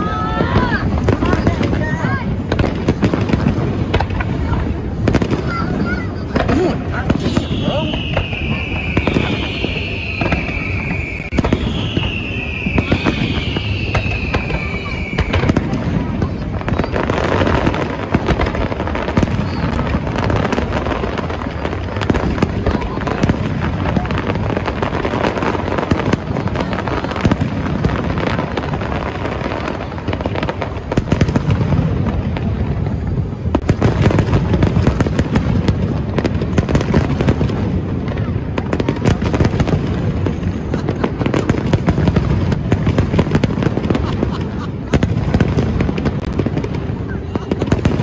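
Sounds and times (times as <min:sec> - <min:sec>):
fireworks booms: 0:00.0 - 0:48.0
fireworks pops and crackles: 0:00.0 - 0:48.0.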